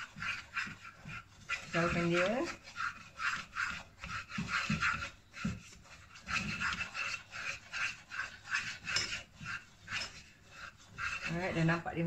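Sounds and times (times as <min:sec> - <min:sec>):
spoon scraping metal saucepan: 0:00.0 - 0:12.0.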